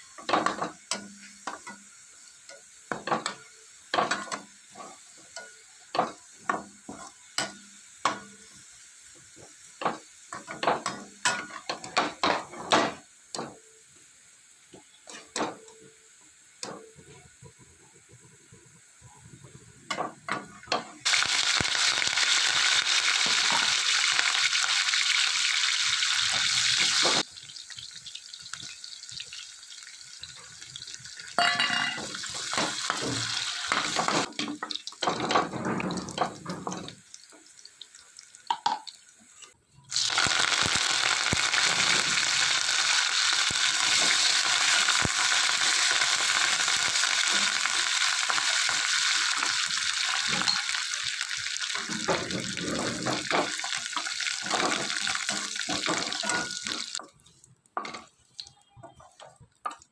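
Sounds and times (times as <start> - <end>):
hot oil sizzling: 0.0 - 59.9.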